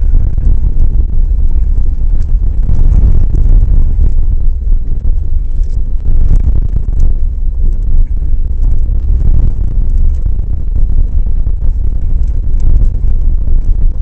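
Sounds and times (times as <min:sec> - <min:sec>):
small clicks and rattles: 0:00.0 - 0:14.0
vehicle rumbling over gravel road: 0:00.0 - 0:14.0.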